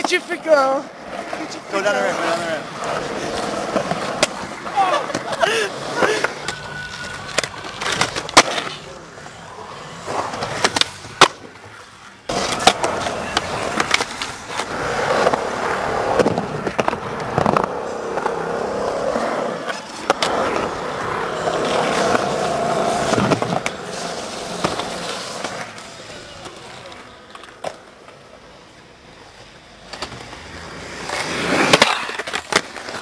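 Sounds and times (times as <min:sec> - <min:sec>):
skateboard clacking on concrete: 0:00.0 - 0:05.4, 0:06.0 - 0:08.9, 0:10.2 - 0:11.6, 0:12.3 - 0:18.9, 0:19.5 - 0:28.2, 0:29.8 - 0:33.0
skateboard wheels rolling on concrete: 0:00.0 - 0:33.0.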